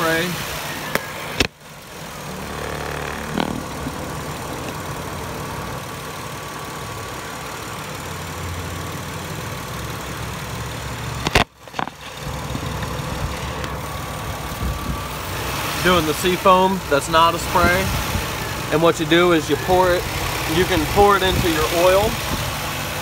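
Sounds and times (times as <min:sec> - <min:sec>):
car engine idling: 0:00.0 - 0:23.0
engine knock: 0:02.2 - 0:23.0.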